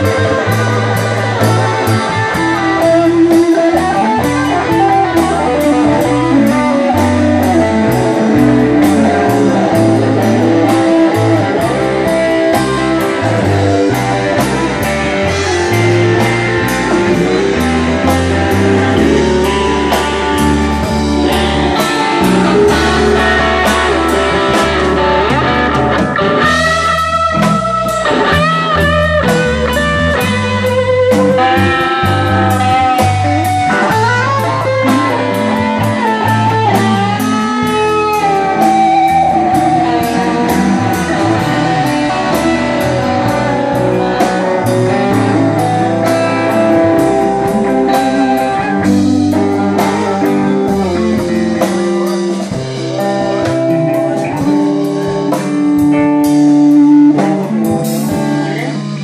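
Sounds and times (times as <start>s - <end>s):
bass: 0.0s - 59.0s
electric guitars: 0.0s - 59.0s
lead guitar long wavering notes: 0.0s - 59.0s
steady drum beat: 0.0s - 59.0s.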